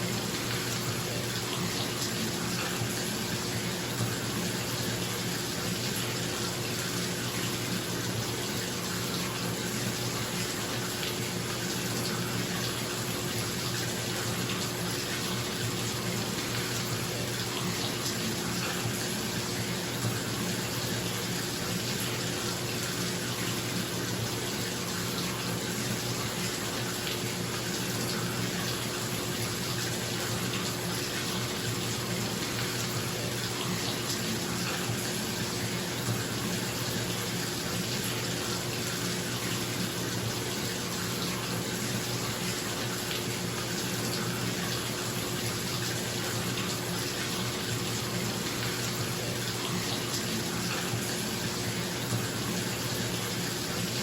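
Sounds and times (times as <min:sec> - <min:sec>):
tap water pouring into tub: 0:00.0 - 0:54.0.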